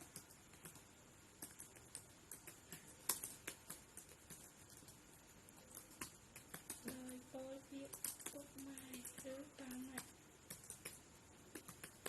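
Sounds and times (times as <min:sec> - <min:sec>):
keyboard typing: 0:00.0 - 0:12.0.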